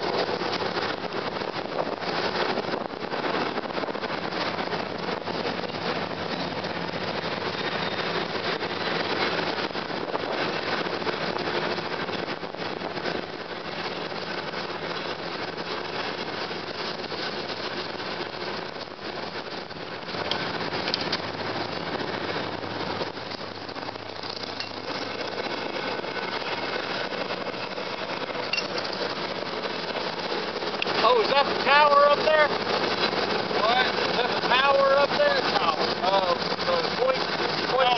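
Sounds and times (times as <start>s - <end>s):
cable car rumbling in motion: 0.0s - 37.9s.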